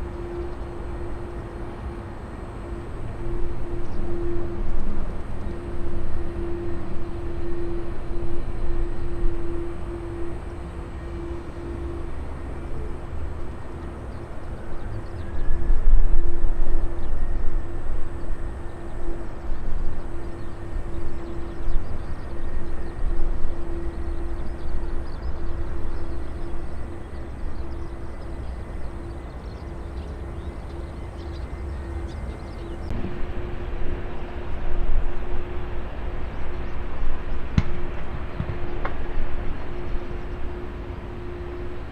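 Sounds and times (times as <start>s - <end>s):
jet engine rumble: 0.0s - 41.9s.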